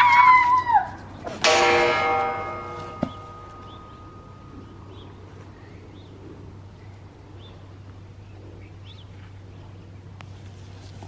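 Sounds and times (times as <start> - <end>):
birds chirping: 1.0 - 10.4
steady low hum: 1.0 - 11.0.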